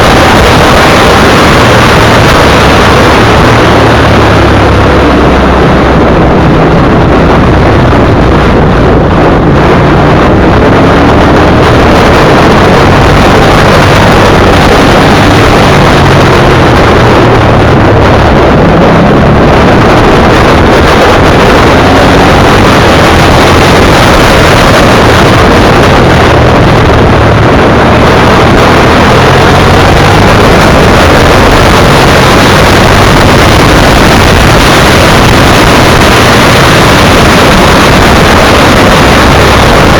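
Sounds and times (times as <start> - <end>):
motorcycle engine: 0.0 - 39.9
wind buffeting on microphone: 0.0 - 39.9.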